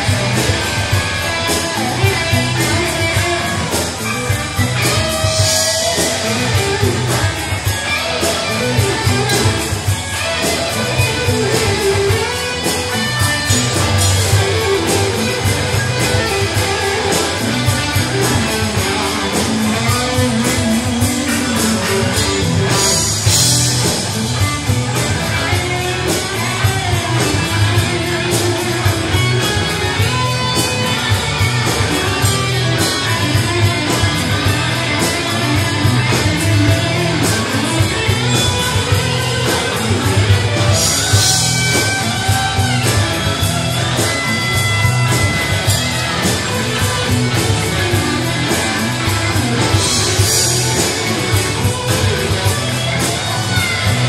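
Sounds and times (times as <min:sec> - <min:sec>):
bass guitar: 0:00.0 - 0:54.0
drums: 0:00.0 - 0:54.0
electric guitars: 0:00.0 - 0:54.0.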